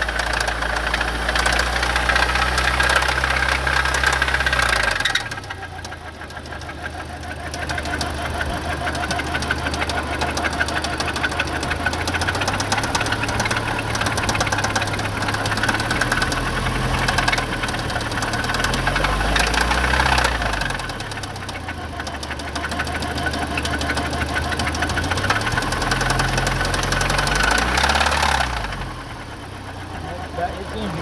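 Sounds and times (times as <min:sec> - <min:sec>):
car engine running and revving: 0:00.0 - 0:31.0
rapid engine knocking: 0:00.0 - 0:31.0.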